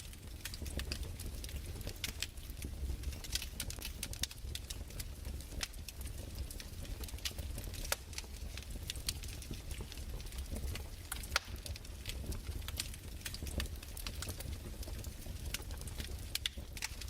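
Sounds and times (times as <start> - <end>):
fireplace crackling and popping: 0.0 - 17.0.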